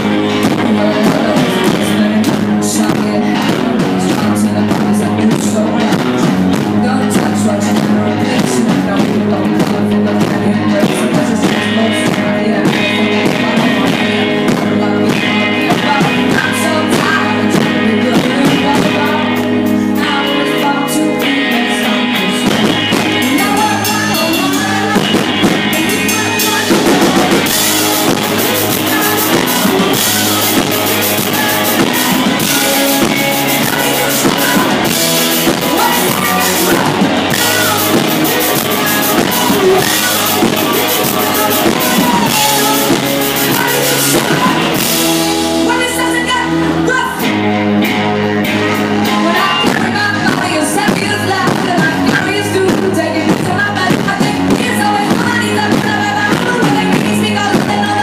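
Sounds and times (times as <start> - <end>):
woman singing into a microphone: 0.0 - 47.6, 49.0 - 58.0
drum kit: 0.0 - 58.0
electric guitar: 0.0 - 58.0.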